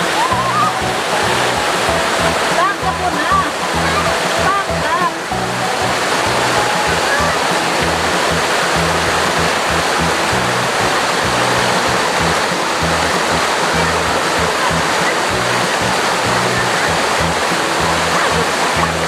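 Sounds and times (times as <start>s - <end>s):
waterfall and stream rushing: 0.0s - 19.0s.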